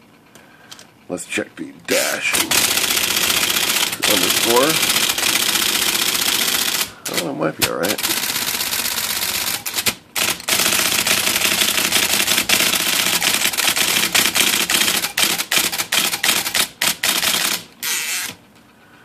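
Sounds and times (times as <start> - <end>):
typewriter clattering: 1.9 - 17.7
typewriter motor running: 1.9 - 18.4.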